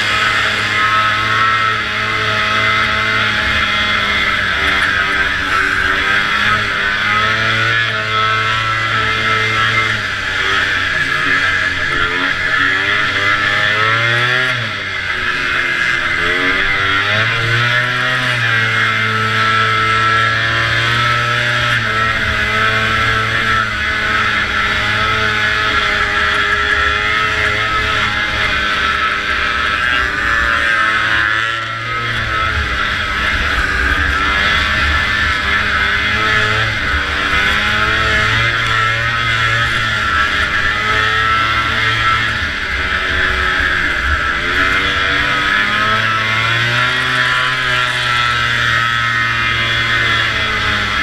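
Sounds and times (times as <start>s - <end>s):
snowmobile engine at high revs: 0.0s - 51.0s.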